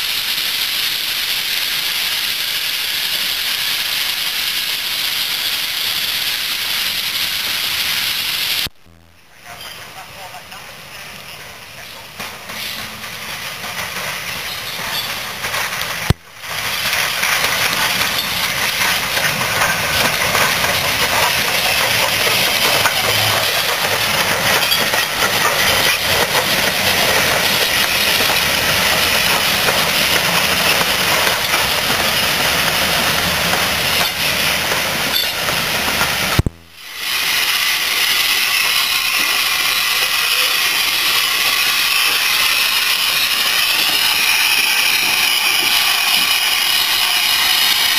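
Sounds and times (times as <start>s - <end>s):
steam hissing from locomotive: 0.0s - 8.7s, 9.5s - 47.9s.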